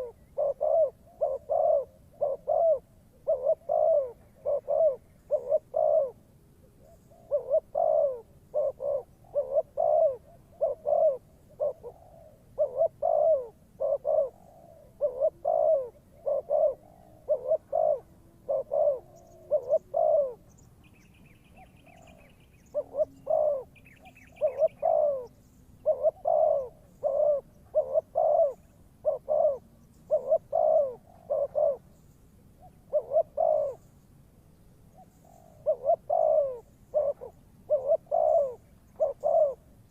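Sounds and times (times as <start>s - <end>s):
dove cooing: 0.0s - 34.0s, 34.8s - 39.9s.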